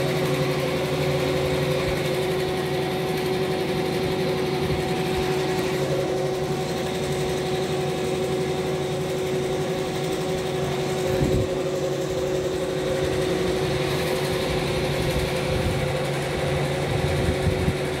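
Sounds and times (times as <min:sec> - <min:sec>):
embroidery machine stitching: 0:00.0 - 0:18.0.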